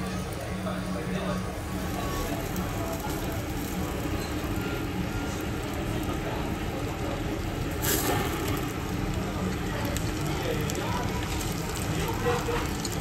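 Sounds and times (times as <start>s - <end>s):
low rumbling room noise: 0.0s - 13.0s.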